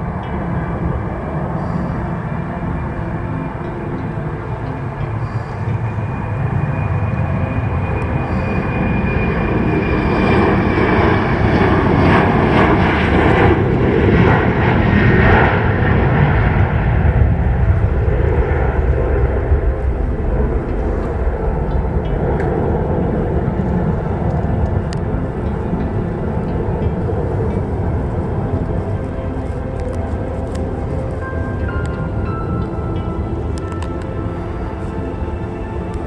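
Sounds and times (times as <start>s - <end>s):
high whine: 0.0s - 36.0s
jet airliner passing: 0.0s - 36.0s.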